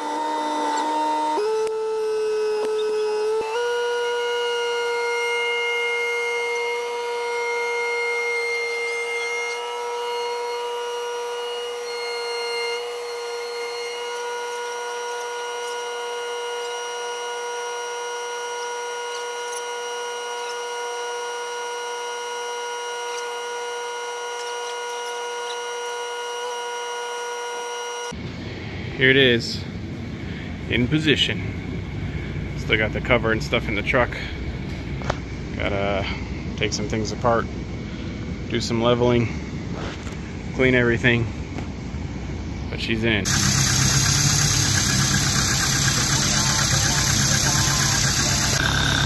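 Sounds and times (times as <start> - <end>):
loader engine high-pitched whine: 0.0 - 49.0.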